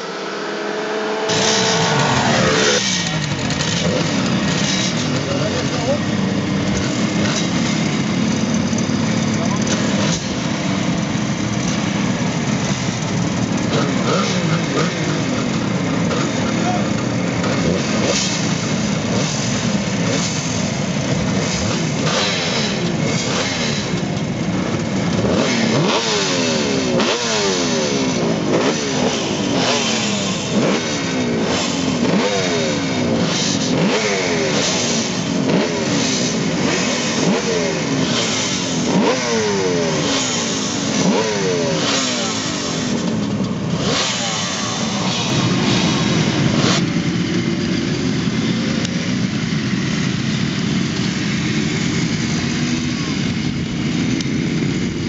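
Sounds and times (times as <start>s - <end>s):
motorcycles revving: 0.0s - 55.0s.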